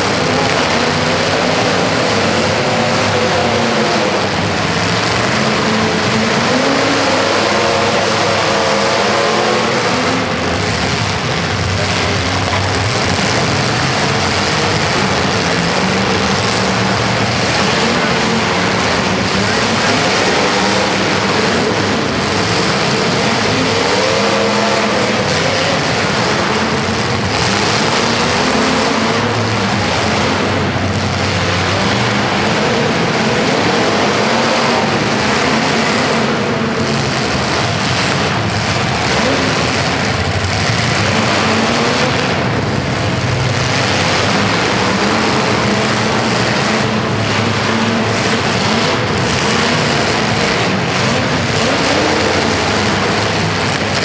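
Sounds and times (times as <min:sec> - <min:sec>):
vehicle engines revving: 0:00.0 - 0:54.0.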